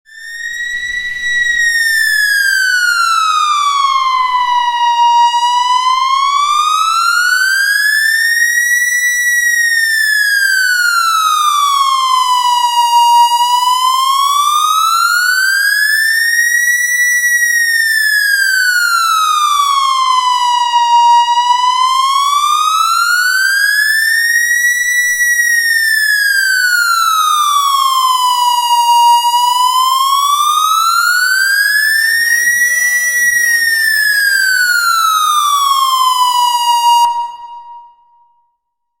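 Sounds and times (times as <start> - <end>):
synthesized police siren wailing: 0.1 - 38.2.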